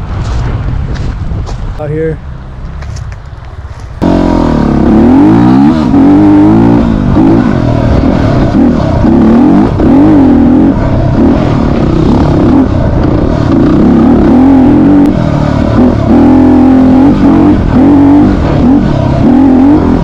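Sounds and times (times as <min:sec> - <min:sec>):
steady low rumble: 0:00.0 - 0:20.0
motorcycle engine revving: 0:04.0 - 0:20.0.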